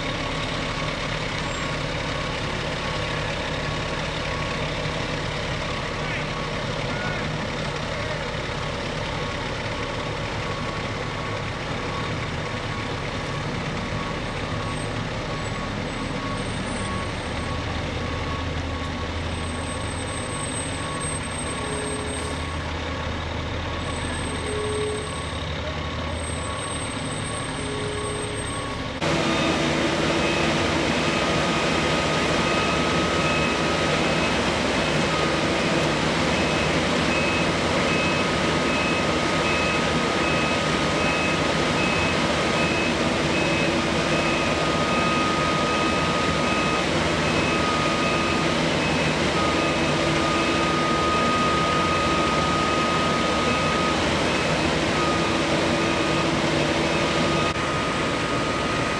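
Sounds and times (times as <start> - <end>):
fire truck engines running: 0.0 - 58.9.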